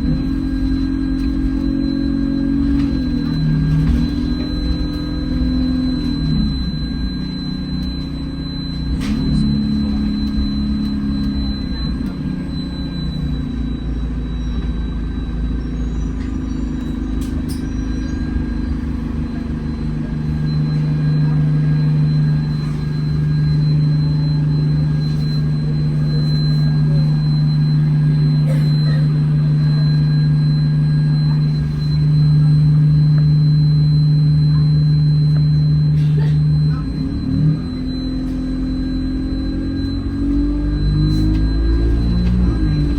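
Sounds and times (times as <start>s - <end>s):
bus engine drone: 0.0s - 42.9s
high whine of cooling fan: 0.0s - 42.9s.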